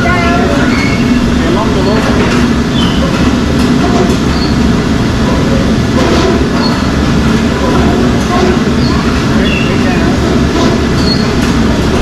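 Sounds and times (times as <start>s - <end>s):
factory machinery rumble and rattle: 0.0s - 12.0s.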